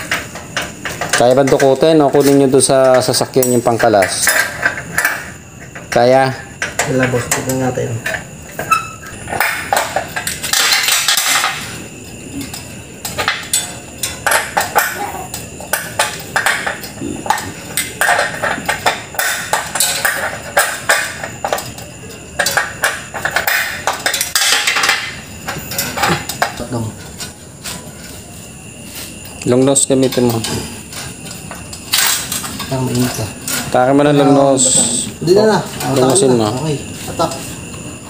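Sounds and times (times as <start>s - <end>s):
metal tools clinking on steel: 0.0s - 38.0s.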